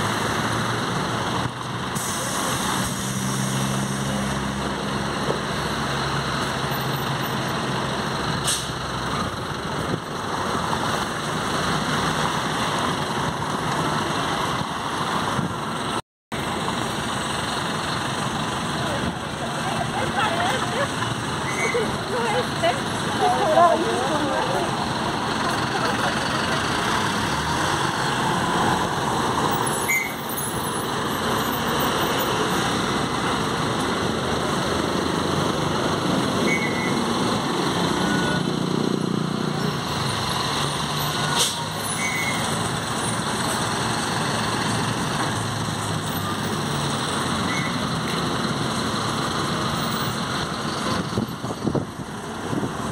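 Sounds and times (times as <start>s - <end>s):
bus engine running: 0.0s - 52.9s
street traffic: 0.0s - 52.9s.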